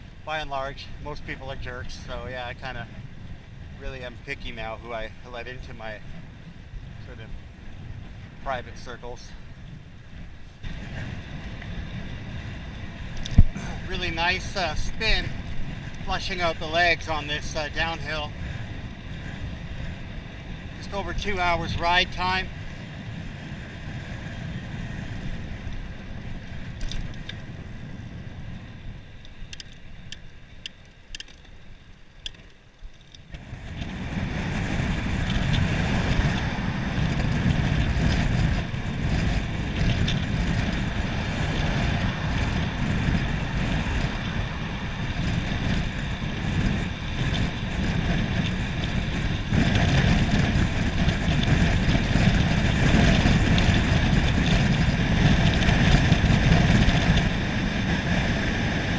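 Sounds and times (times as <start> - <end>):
bicycle tyre noise: 0.0 - 58.9
wind rushing over microphone: 0.0 - 58.9.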